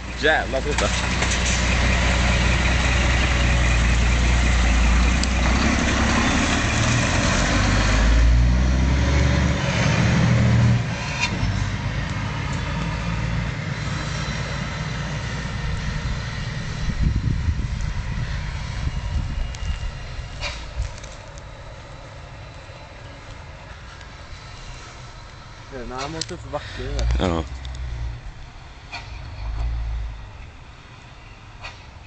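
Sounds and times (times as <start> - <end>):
truck diesel exhaust rumble: 0.0 - 32.0.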